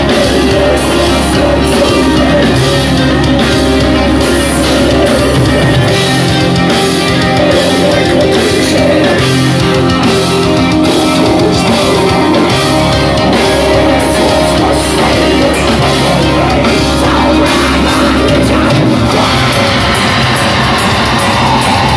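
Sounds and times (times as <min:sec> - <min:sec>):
distorted electric guitars: 0:00.0 - 0:21.9
drums and cymbals: 0:00.0 - 0:21.9
heavy metal band playing live: 0:00.0 - 0:21.9.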